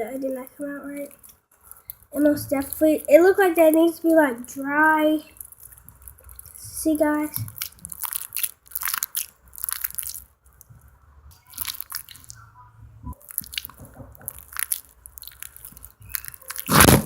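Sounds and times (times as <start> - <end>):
slime squishing: 0.0 - 12.5, 13.1 - 17.0.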